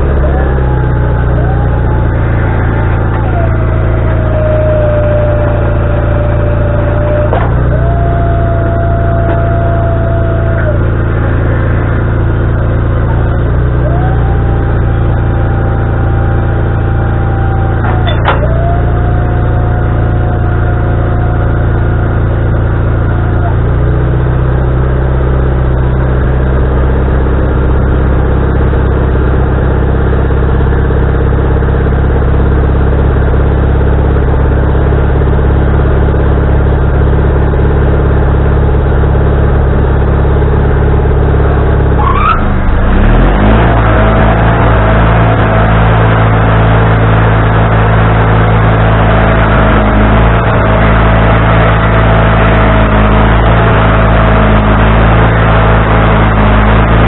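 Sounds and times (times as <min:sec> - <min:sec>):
band sawmill running: 0:00.0 - 0:57.0
mid-pitched whine: 0:00.0 - 0:57.0.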